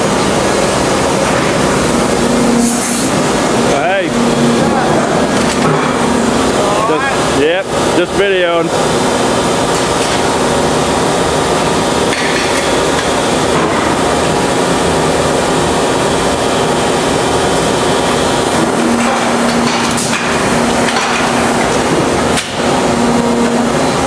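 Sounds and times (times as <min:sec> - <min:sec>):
factory machinery din: 0:00.0 - 0:24.0.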